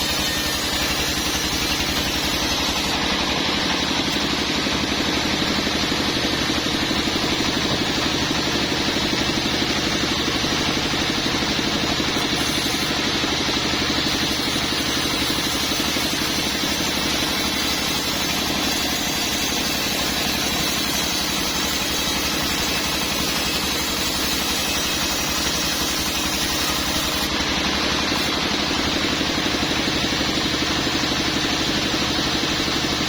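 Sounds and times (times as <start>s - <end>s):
sawmill machinery droning: 0.0s - 33.0s.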